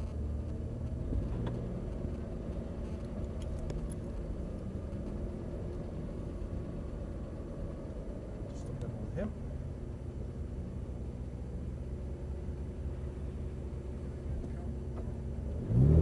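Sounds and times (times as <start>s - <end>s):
car engine running low: 0.0s - 16.0s.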